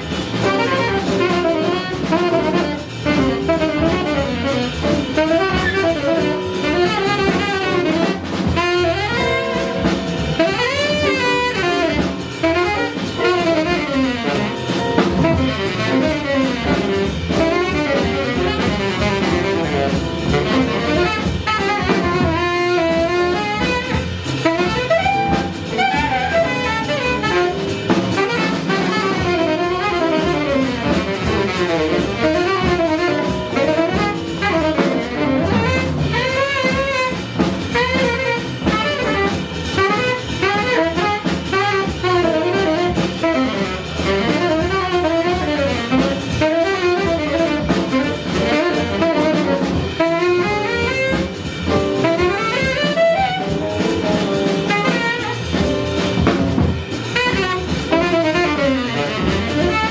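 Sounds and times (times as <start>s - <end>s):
bass: 0.0s - 59.9s
drum kit: 0.0s - 59.9s
piano: 0.0s - 59.9s
saxophone: 0.0s - 59.9s.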